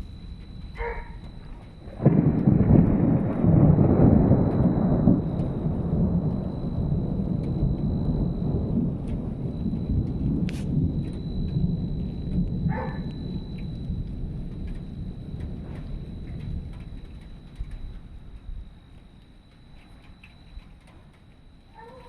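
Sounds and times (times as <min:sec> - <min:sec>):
rain falling: 0:00.0 - 0:22.0
thunder rumbling: 0:00.0 - 0:22.0.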